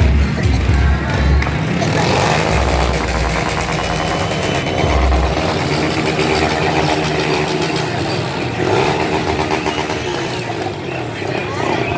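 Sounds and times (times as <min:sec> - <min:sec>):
vehicle engine running loudly: 0:00.0 - 0:11.9.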